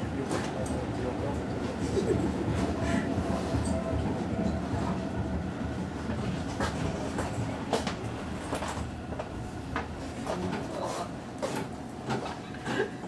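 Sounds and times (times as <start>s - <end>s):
train wheels rumbling: 0.0s - 12.3s.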